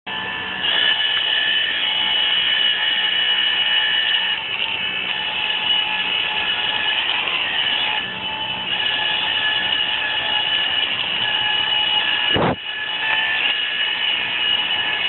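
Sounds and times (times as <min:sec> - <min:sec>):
power tool motor whining: 0:00.1 - 0:15.0.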